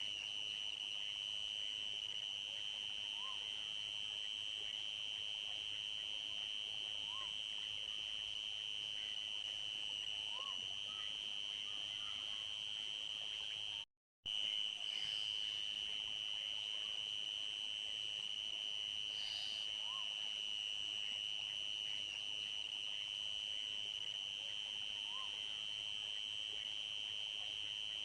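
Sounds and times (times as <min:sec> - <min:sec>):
crickets trilling: 0:00.1 - 0:28.0.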